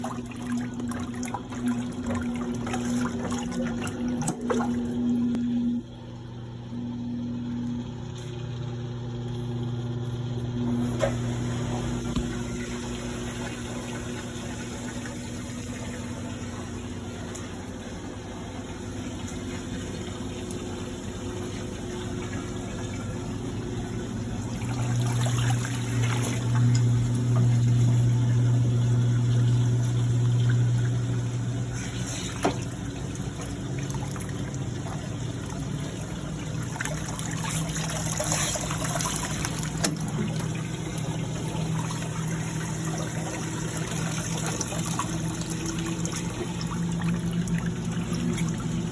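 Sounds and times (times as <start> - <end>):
washing machine motor hum: 0.0 - 48.9
water sloshing in tub: 0.0 - 48.9.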